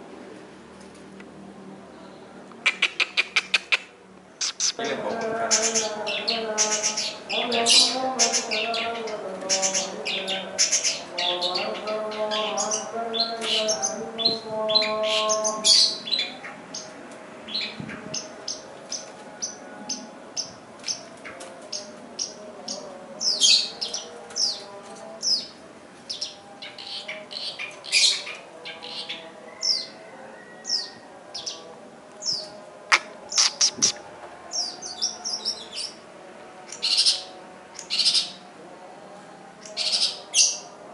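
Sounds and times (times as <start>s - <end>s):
birds chirping and trilling: 2.0s - 38.5s, 39.6s - 40.8s.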